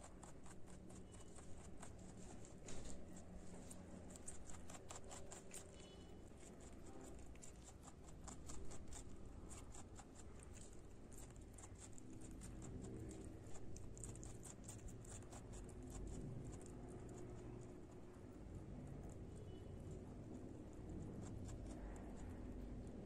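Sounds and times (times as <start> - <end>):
rabbit chewing crunchily: 0.0 - 23.0.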